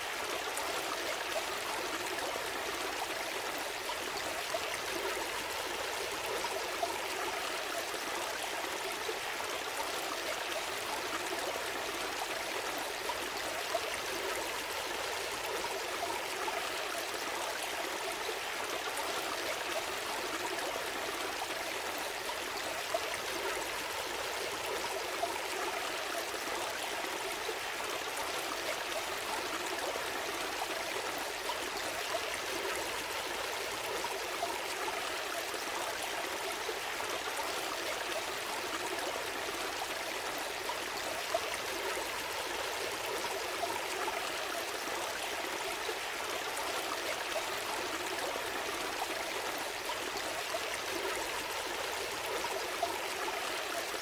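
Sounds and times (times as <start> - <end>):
stream babbling over rocks: 0.0 - 54.0.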